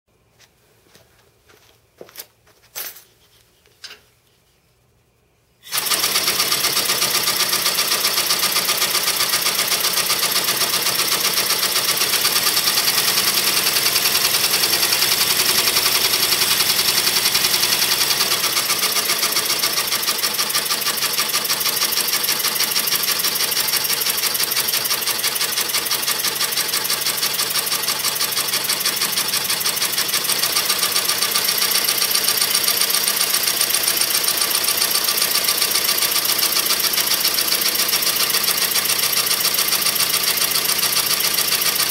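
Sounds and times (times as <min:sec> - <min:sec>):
steam engine mechanical clatter: 0:05.7 - 0:41.9.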